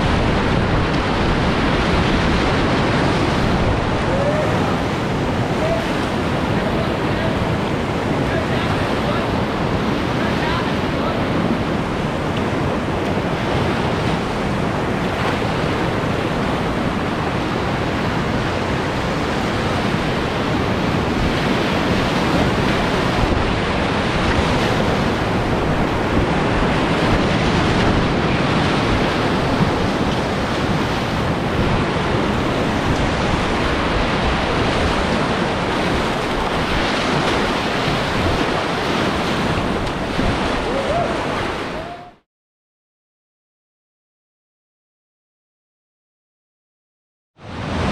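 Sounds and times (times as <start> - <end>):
whitewater rapids rushing: 0.0 - 42.2.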